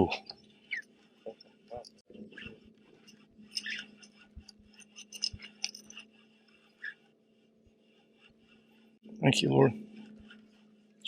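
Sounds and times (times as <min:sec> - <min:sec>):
faint steady hum: 0:00.1 - 0:11.0.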